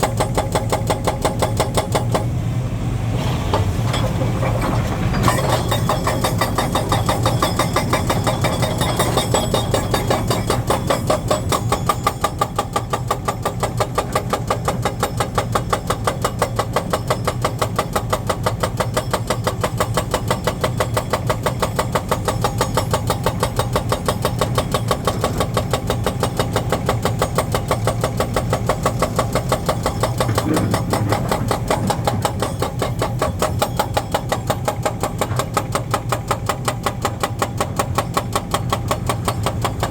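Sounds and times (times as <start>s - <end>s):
heavy diesel engine running: 0.0s - 16.6s, 19.6s - 39.9s.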